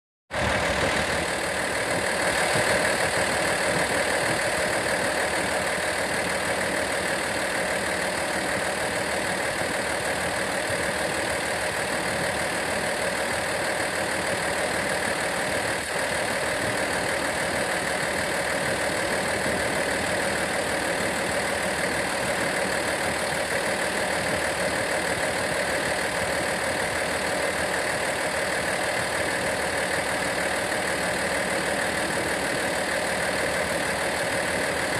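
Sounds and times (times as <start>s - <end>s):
vehicle engine idling: 0.3s - 34.9s.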